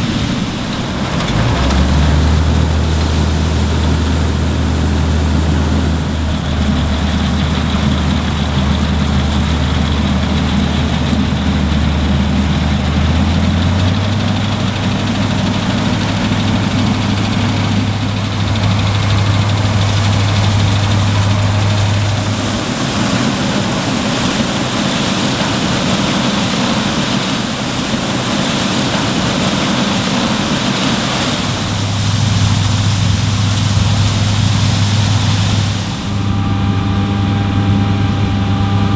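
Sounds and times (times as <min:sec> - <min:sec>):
diesel engines running under load: 0:00.0 - 0:38.9.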